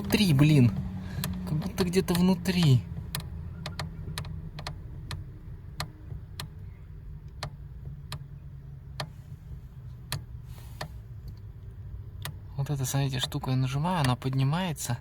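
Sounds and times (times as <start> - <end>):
clutch pedal clicking: 0.0 - 12.6, 13.9 - 14.5.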